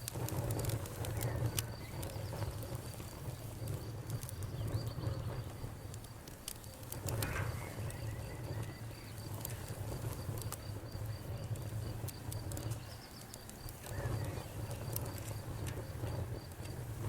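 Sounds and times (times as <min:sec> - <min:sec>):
campfire crackling and popping: 0:00.0 - 0:17.0
insect chirping: 0:00.8 - 0:16.5.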